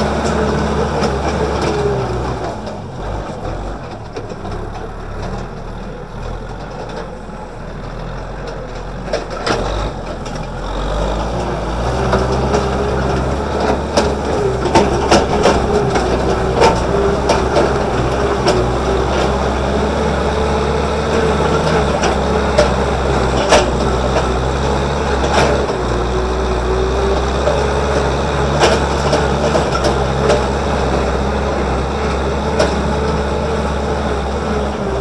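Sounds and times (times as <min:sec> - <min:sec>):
clanks and knocks: 0:00.0 - 0:35.0
tractor diesel engine under load: 0:00.0 - 0:35.0.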